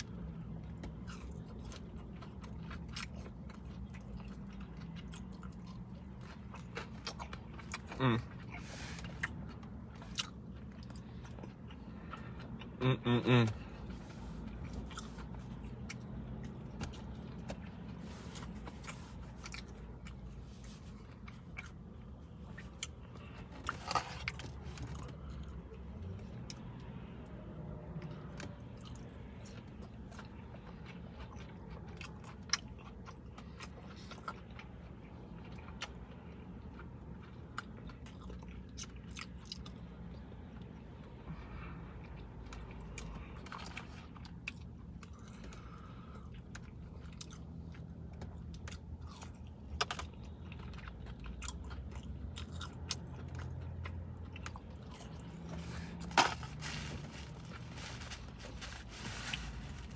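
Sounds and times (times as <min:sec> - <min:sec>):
crunchy chewing: 0:00.0 - 0:26.9, 0:28.0 - 0:41.2, 0:42.0 - 0:59.9.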